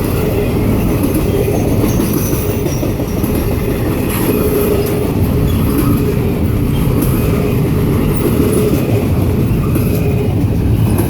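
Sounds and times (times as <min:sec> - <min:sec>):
steel wheels rumbling on rails: 0:00.0 - 0:11.0.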